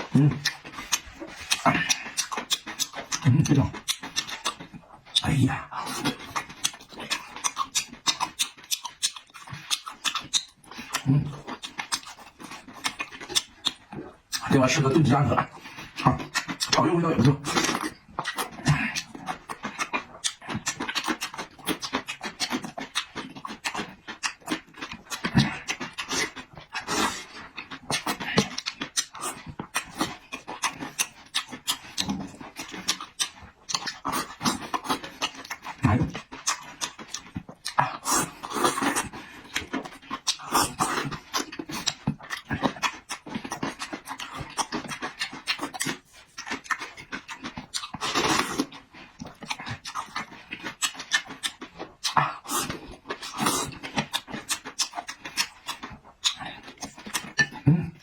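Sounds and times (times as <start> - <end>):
mouth smacks and clicks: 0.0 - 58.0
person chewing and slurping: 0.0 - 58.0.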